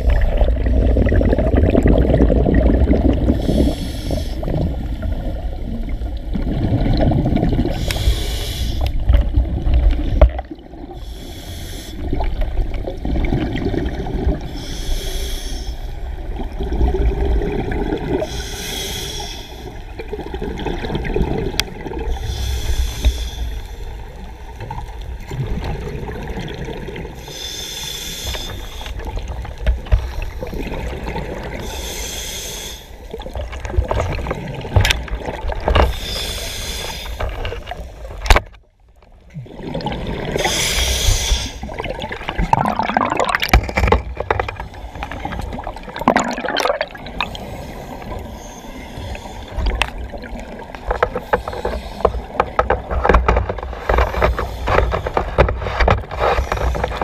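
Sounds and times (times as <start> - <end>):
water sloshing and gurgling: 0.0 - 57.0.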